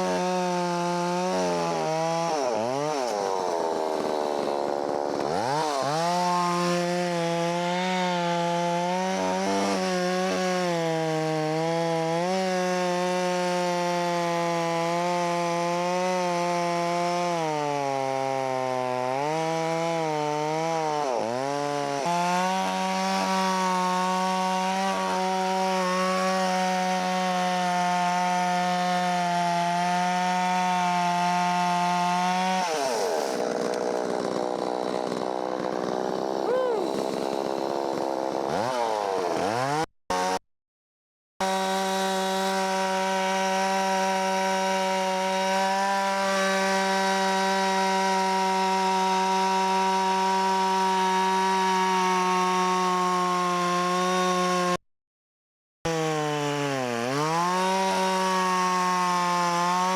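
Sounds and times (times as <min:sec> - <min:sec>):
chainsaw cutting wood: 0:00.0 - 0:40.4, 0:41.4 - 0:54.8, 0:55.9 - 0:59.9.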